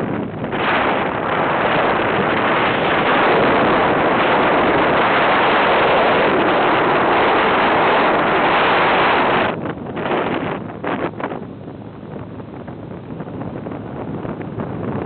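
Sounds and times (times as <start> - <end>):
wind rushing on microphone: 0.0 - 15.0.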